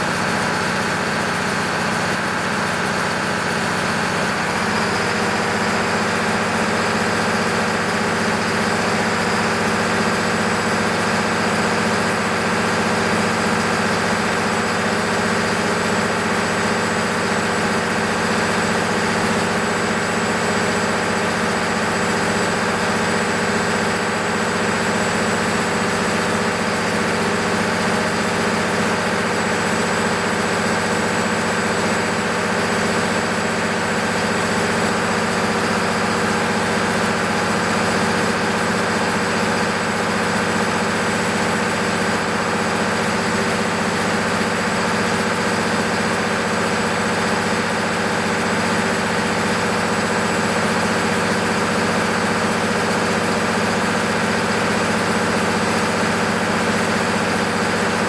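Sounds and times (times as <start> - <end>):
diesel generator running: 0.0 - 58.0.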